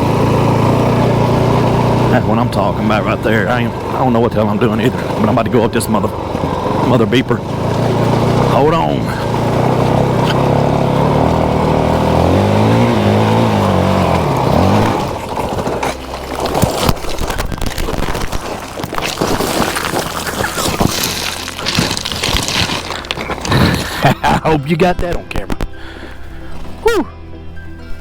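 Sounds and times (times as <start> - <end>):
motorcycle engine revving: 0.0 - 28.0
motorcycle tumbling down hill: 0.0 - 28.0.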